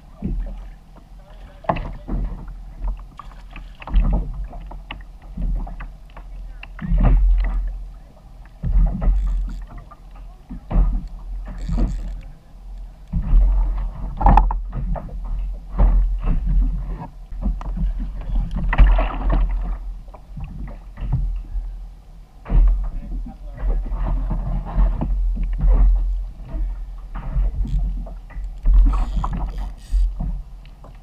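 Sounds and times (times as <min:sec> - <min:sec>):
water slapping against kayak hull: 0:00.0 - 0:21.4, 0:22.4 - 0:31.0.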